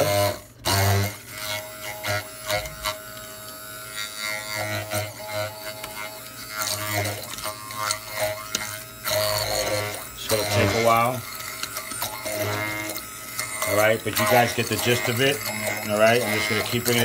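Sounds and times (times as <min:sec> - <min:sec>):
stick blender motor whine: 0:00.0 - 0:17.0.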